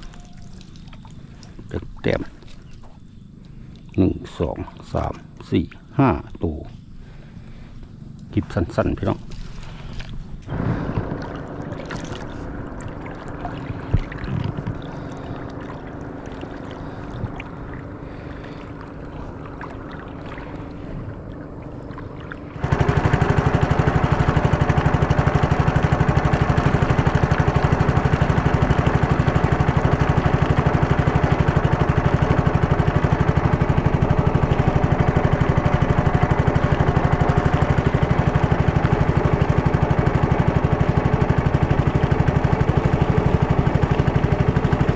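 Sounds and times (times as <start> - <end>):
boat engine running: 0.0 - 44.9
water lapping around boat: 0.0 - 44.9.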